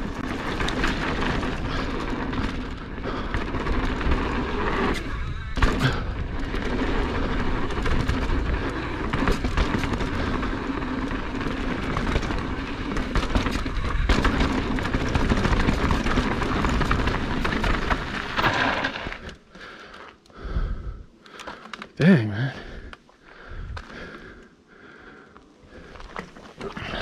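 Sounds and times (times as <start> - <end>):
tyres on dirt: 0.0 - 20.3, 25.3 - 27.0
bike rattling: 0.0 - 27.0.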